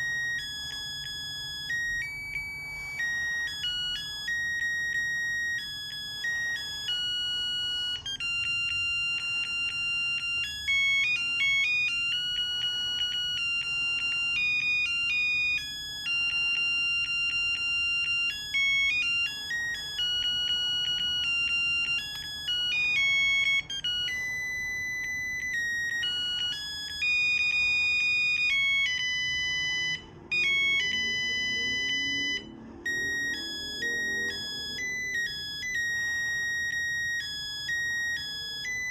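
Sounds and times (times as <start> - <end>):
phone melody ringtone: 0.0 - 38.9.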